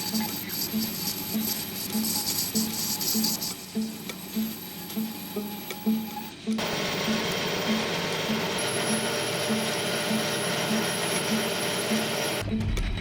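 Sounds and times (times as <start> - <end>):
machine tool running: 0.0 - 12.5
soft background music: 0.0 - 13.0.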